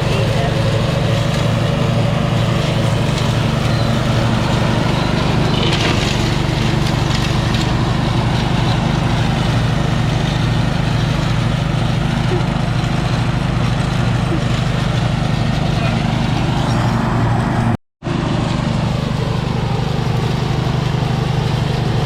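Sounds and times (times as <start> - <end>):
ride-on lawn mower engine running: 0.0 - 22.0.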